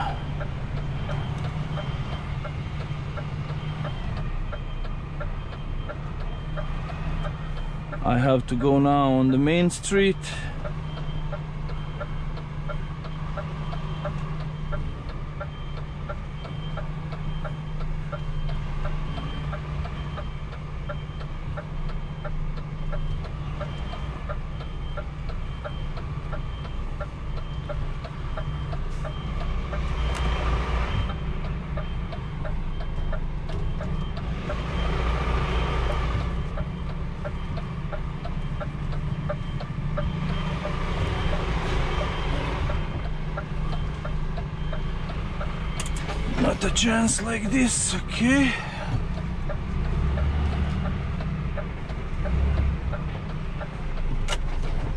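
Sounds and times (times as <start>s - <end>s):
diesel engine running: 0.0s - 54.9s
truck reversing alarm beeping: 0.0s - 54.9s.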